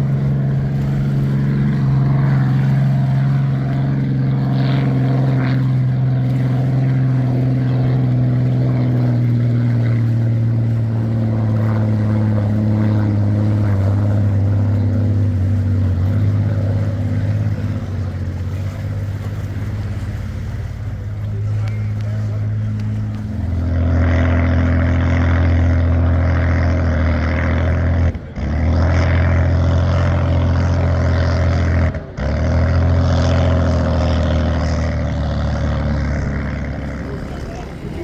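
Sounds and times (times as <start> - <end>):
boat engine roaring: 0.0 - 38.0.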